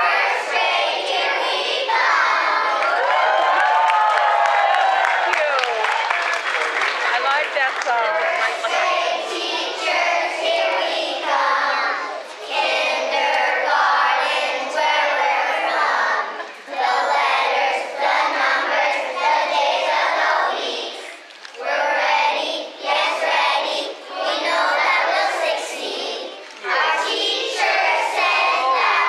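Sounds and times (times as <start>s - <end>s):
children singing in unison: 0.0s - 3.0s, 8.1s - 29.0s.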